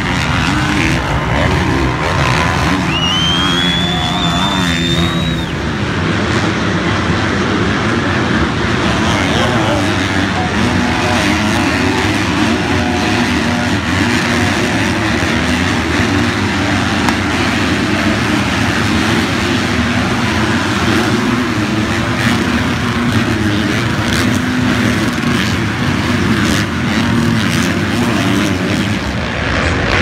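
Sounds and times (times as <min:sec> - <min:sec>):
motocross bikes racing: 0:00.0 - 0:30.0.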